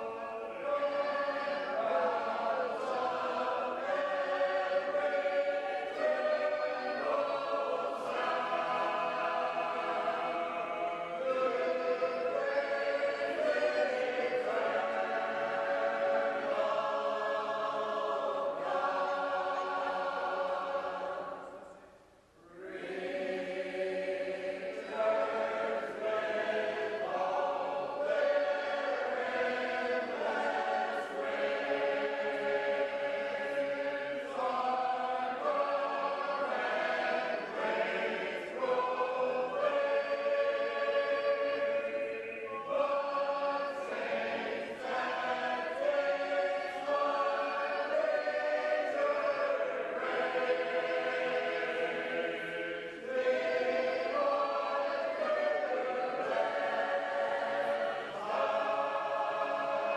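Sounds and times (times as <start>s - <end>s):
group singing a cappella: 0.0s - 59.9s.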